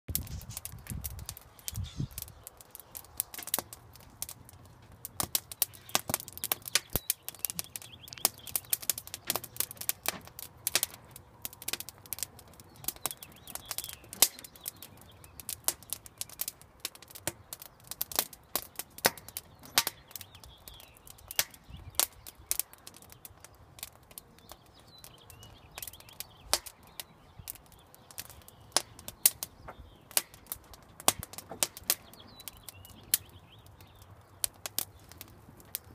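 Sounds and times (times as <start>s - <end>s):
wood fire crackling: 0.1s - 35.9s.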